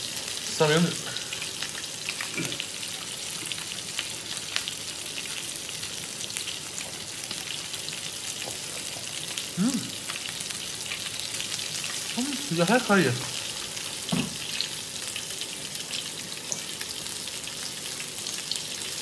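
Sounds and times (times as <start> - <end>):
meat sizzling in a pan: 0.0 - 19.0.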